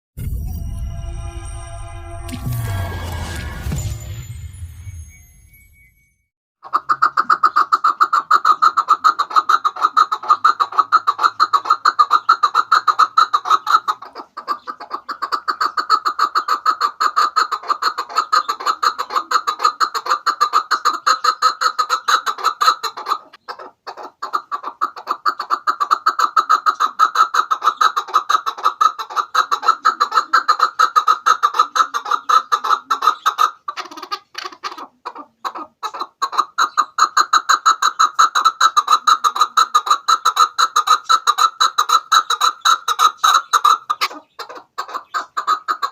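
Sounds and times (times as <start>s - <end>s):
partridge clucking calls: 6.6s - 45.9s.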